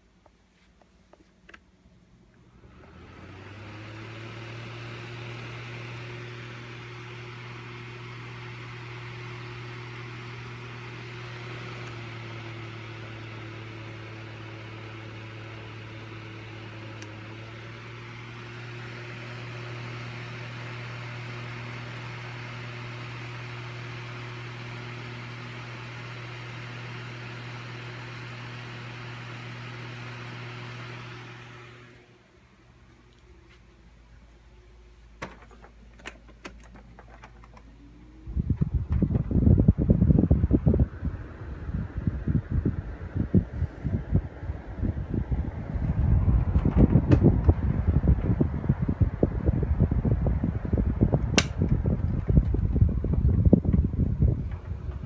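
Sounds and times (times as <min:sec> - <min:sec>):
electric fan humming and hissing: 0:01.4 - 0:55.0.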